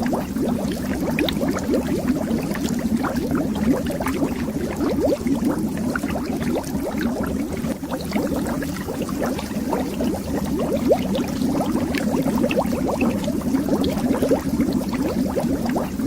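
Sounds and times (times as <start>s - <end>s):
bubbles streaming under water: 0.0s - 16.0s.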